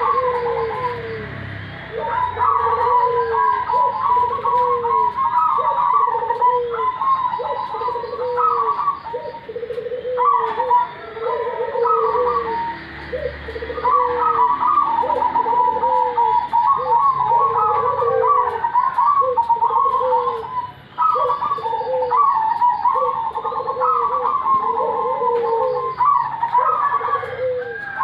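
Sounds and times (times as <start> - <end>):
doves cooing: 0.0 - 28.0.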